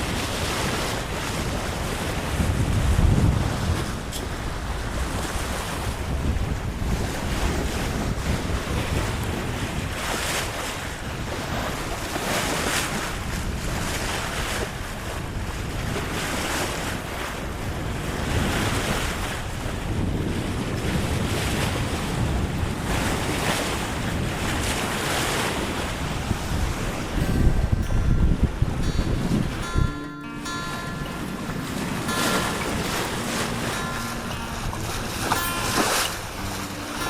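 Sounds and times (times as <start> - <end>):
water rushing along a hull: 0.0 - 37.0
wind buffeting microphone: 0.0 - 37.0.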